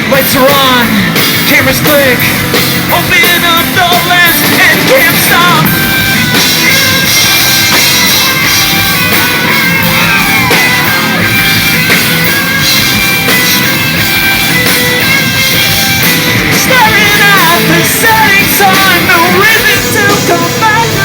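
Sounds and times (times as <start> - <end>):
bass guitar: 0.0 - 21.0
distorted electric guitars: 0.0 - 21.0
drum kit: 0.0 - 21.0.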